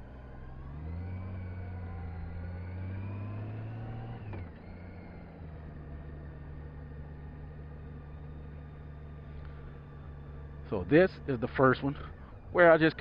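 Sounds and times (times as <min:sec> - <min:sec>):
motorcycle engine pulling away: 0:00.0 - 0:12.6.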